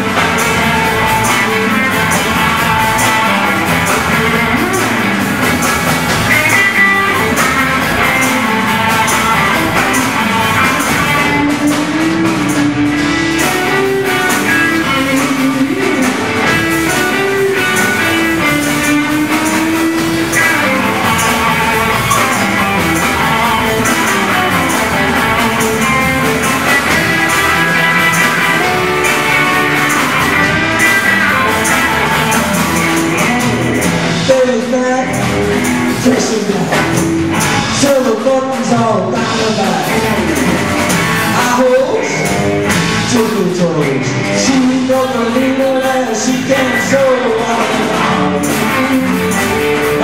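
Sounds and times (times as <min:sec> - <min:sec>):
bass guitar: 0:00.0 - 0:50.0
drum kit beat: 0:00.0 - 0:50.0
electric guitars: 0:00.0 - 0:50.0.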